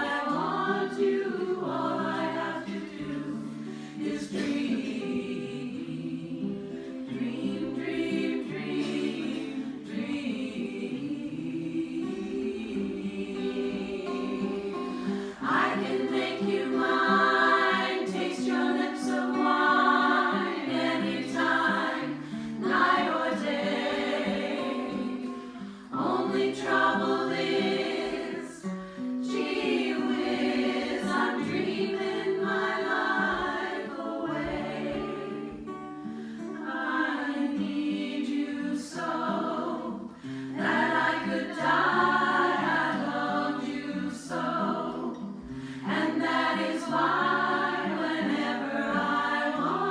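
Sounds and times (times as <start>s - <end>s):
vocal group singing in harmony: 0.0s - 49.9s.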